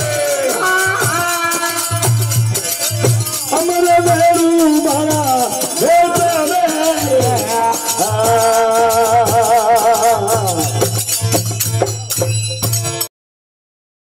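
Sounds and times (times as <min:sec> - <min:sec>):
man singing into a microphone: 0:00.0 - 0:12.0
hand cymbals clashing: 0:00.0 - 0:13.1
harmonium: 0:00.0 - 0:13.1.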